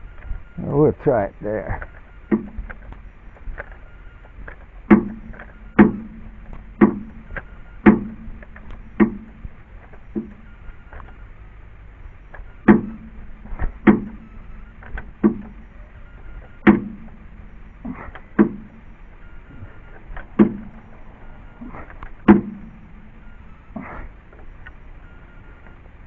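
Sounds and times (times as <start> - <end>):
floor jack metallic clunks: 0.1 - 11.2, 12.2 - 25.7.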